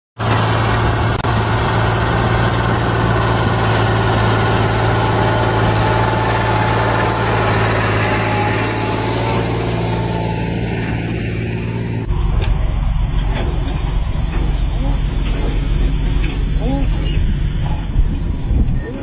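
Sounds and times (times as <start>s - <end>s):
tractor diesel engine running: 0.2s - 19.0s.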